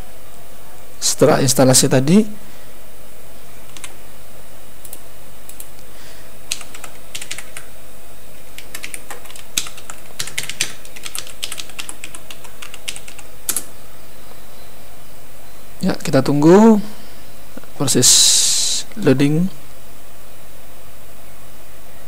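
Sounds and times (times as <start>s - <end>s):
background hum and hiss: 0.0s - 22.0s.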